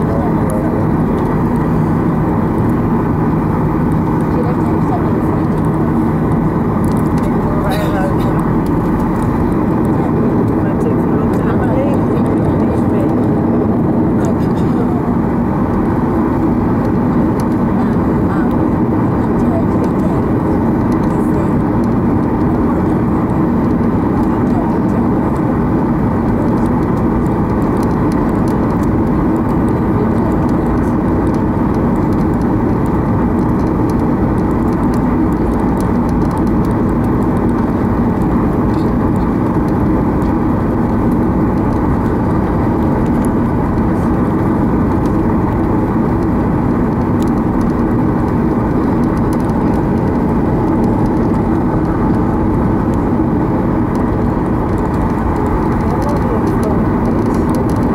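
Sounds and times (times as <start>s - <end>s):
jet engines humming: 0.0s - 57.9s.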